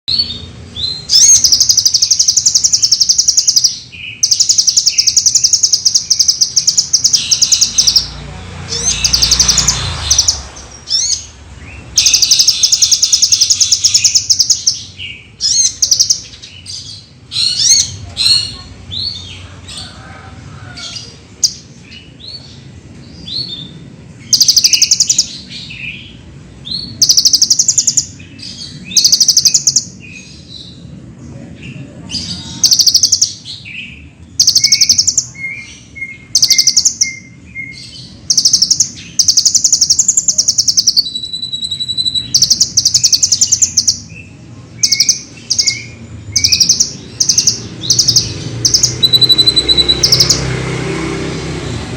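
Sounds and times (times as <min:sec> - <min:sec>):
bird chirps: 0:00.0 - 0:20.0, 0:20.7 - 0:30.9, 0:31.8 - 0:50.7
sunbird trilling song: 0:00.1 - 0:20.0, 0:20.8 - 0:31.0, 0:31.6 - 0:50.7.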